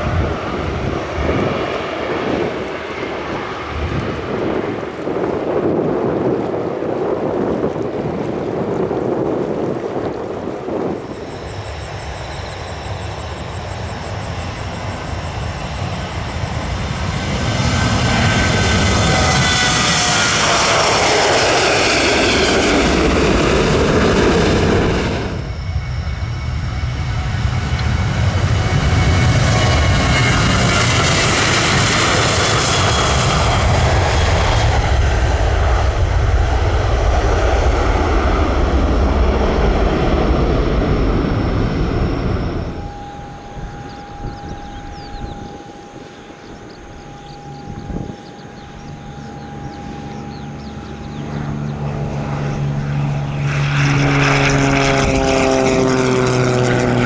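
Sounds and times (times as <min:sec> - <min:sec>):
jet airliner taking off: 0:00.0 - 0:06.0, 0:10.7 - 0:57.0.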